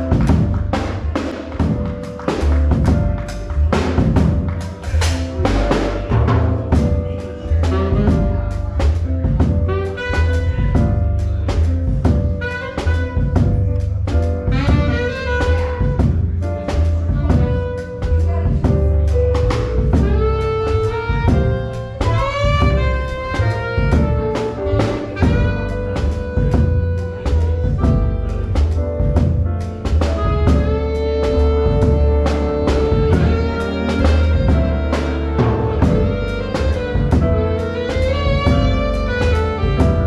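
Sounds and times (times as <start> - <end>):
drum kit with cymbals: 0.0 - 40.0
saxophone melody: 0.0 - 40.0
upright bass: 0.0 - 40.0.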